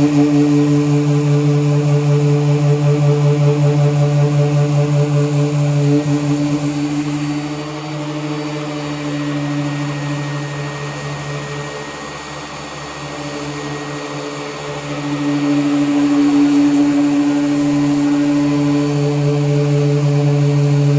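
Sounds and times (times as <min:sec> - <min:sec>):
electric sander humming: 0:00.0 - 0:20.9.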